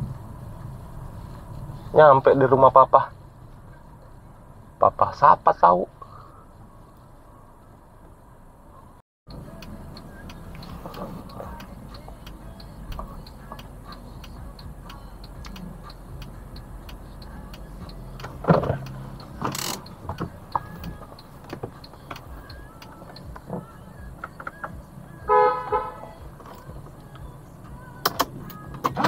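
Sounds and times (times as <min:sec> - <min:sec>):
car engine running low: 0:00.0 - 0:29.0.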